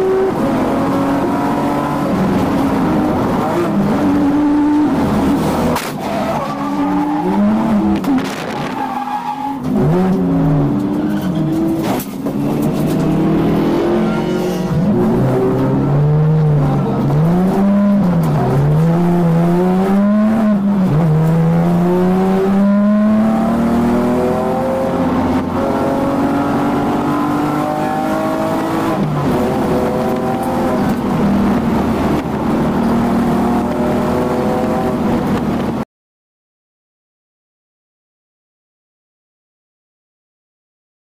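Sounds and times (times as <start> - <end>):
race car engine revving: 0.0 - 35.8.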